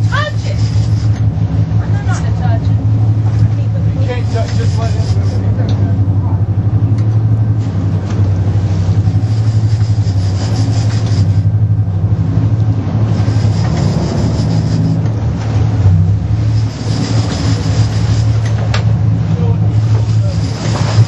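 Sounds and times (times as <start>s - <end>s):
thin high whine: 0.0s - 6.4s, 7.2s - 21.0s
boat engine droning: 0.0s - 21.0s.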